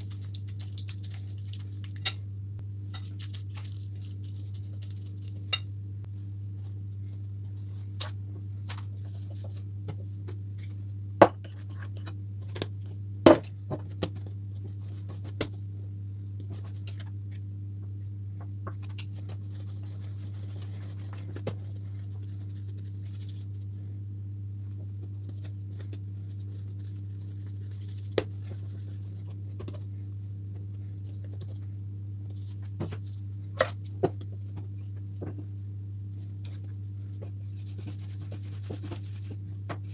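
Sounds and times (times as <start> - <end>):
hands working dough: 0.0 - 2.2, 2.9 - 23.9, 24.6 - 39.9
steady low hum: 0.0 - 39.9.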